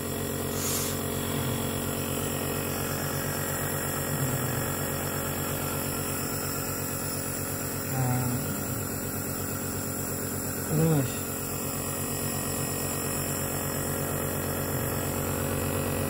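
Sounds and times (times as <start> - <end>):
nebulizer compressor humming: 0.0 - 16.0.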